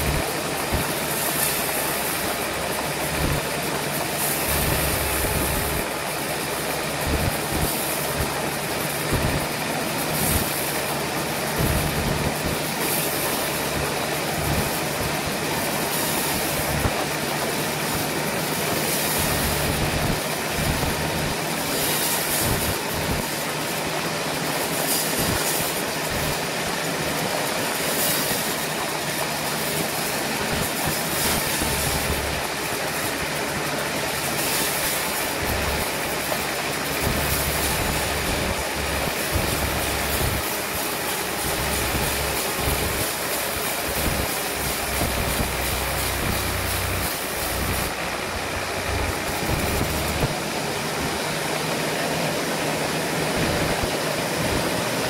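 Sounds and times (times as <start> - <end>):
engine hum: 0.0 - 55.0
rasping saw machine noise: 0.0 - 55.0.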